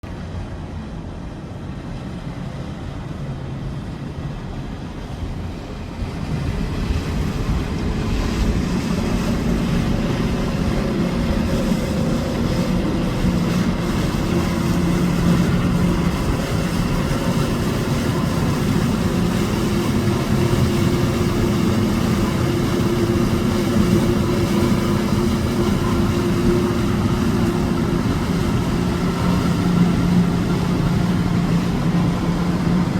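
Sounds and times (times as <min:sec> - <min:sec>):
motorboat engines droning: 0:00.1 - 0:32.9.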